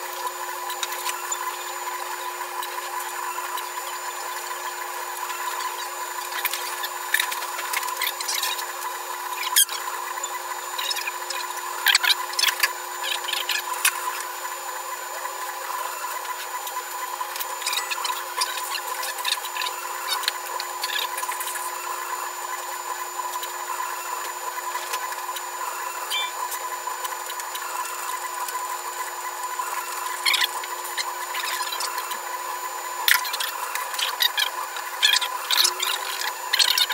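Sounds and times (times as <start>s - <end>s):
printer motor hum and whine: 0.0s - 36.9s
print head squeaks and clicks: 0.1s - 36.9s.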